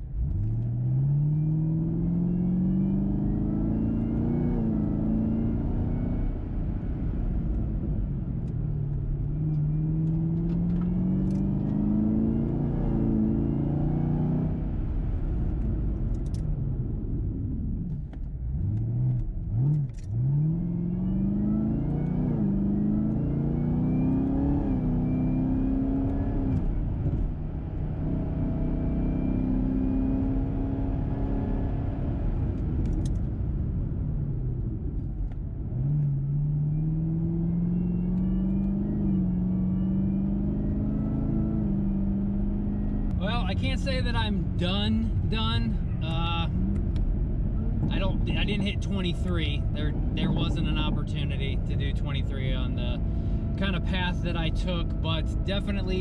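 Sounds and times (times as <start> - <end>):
car engine revving through gears: 0.1 - 16.4, 17.8 - 56.0.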